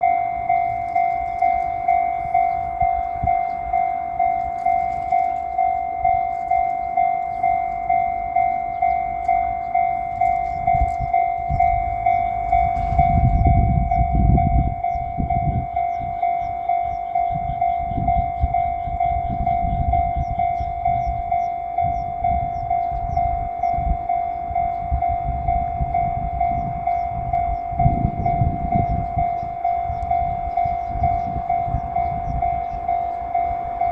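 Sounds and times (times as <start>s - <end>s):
level crossing warning bell: 0.0s - 33.9s
train rumbling past: 0.0s - 33.9s.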